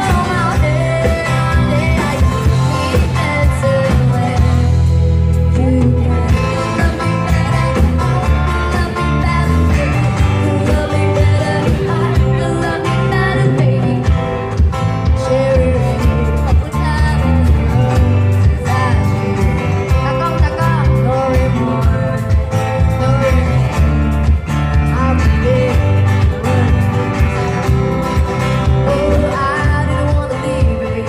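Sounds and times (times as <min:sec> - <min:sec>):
band playing live: 0:00.0 - 0:31.0
guitar: 0:00.0 - 0:31.0
heavy pulsing bass: 0:00.0 - 0:31.0
person singing: 0:00.0 - 0:31.0.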